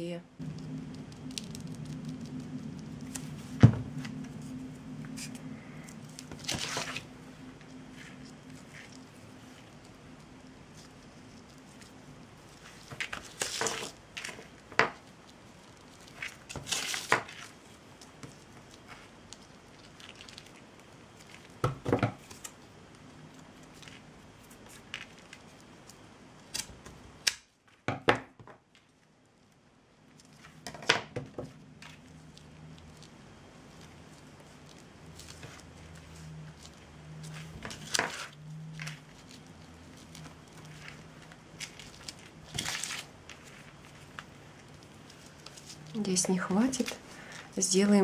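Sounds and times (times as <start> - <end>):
rustles and crinkles: 0.4 - 48.0.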